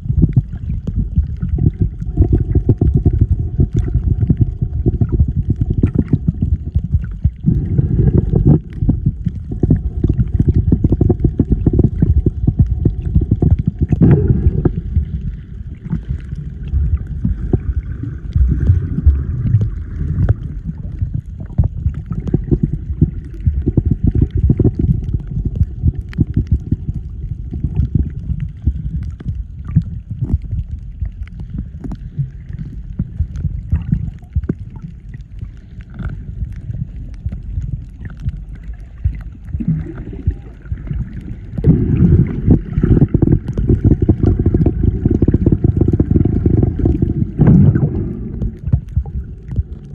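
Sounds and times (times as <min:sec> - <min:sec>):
faint steady hum: 0:00.0 - 0:49.9
underwater rumble and churning water: 0:00.0 - 0:49.9.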